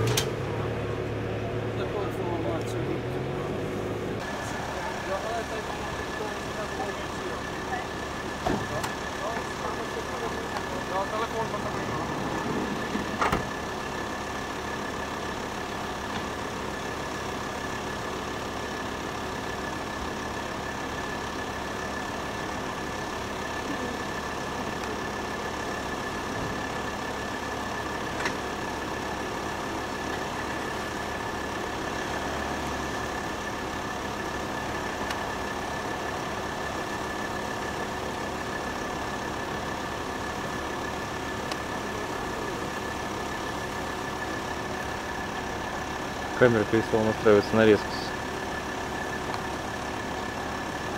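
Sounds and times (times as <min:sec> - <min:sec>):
engine idling: 0:00.0 - 0:50.9.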